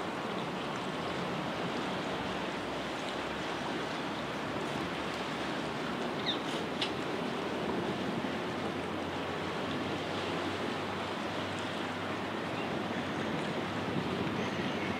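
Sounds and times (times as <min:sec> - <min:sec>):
choppy river water: 0:00.0 - 0:14.9
wind: 0:00.0 - 0:14.9.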